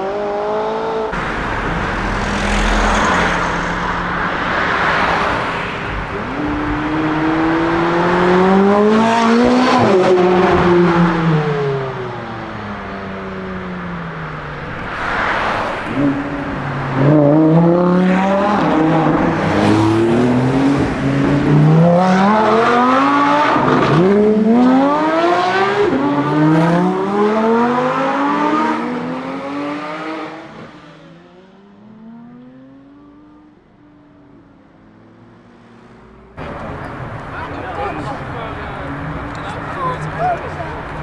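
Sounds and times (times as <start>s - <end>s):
sports car engine accelerating: 0.7s - 33.6s, 36.4s - 41.0s.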